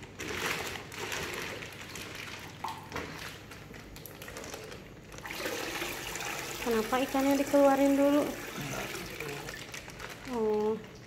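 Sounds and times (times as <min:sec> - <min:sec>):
plastic bag crinkling: 0:00.0 - 0:05.4, 0:06.7 - 0:11.0.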